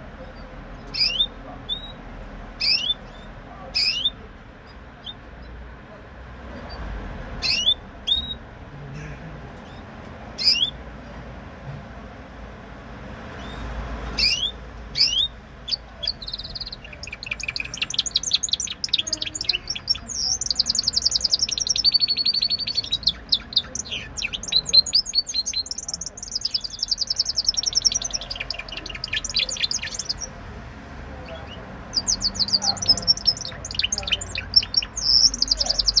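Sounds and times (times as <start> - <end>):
canary chirping and trilling: 0.0 - 5.7, 6.3 - 8.6, 9.4 - 11.0, 13.0 - 36.0.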